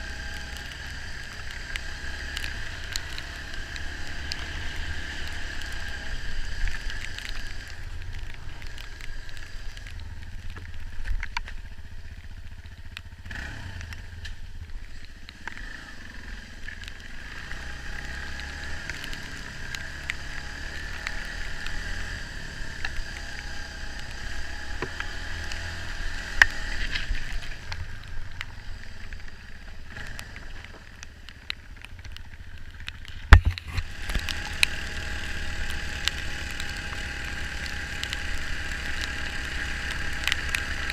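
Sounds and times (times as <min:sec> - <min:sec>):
dirt bike engine rumbling: 0:00.0 - 0:40.9.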